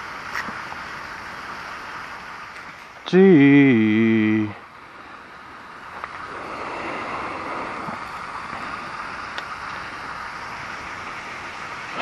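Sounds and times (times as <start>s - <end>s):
rushing outdoor background noise: 0.0s - 12.0s.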